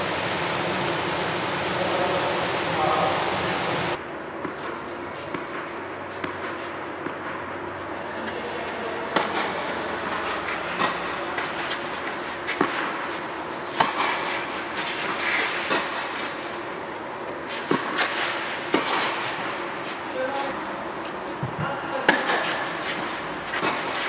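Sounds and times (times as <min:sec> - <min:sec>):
rackets striking tennis ball: 0:04.4 - 0:24.0.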